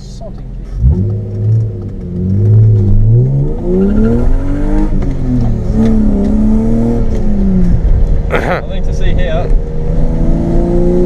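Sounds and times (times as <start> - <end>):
car engine accelerating hard: 0.6 - 11.0.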